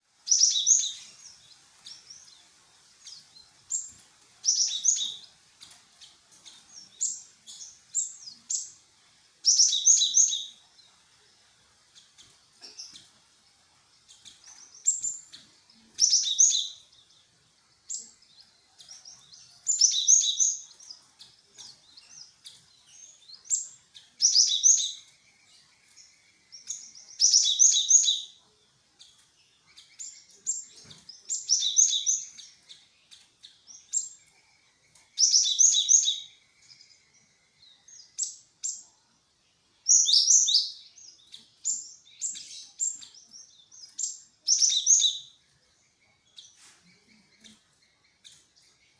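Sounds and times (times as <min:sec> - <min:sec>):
bird chirping song: 0:00.0 - 0:48.9.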